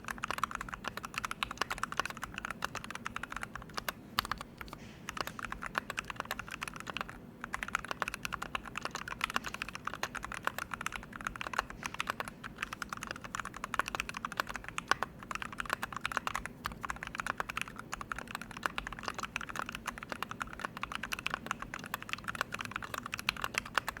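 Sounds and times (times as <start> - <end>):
mechanical keyboard typing: 0.0 - 24.0.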